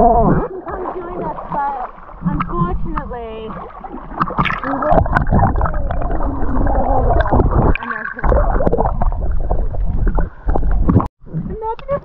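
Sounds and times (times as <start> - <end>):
underwater gurgling and sloshing: 0.0 - 12.0.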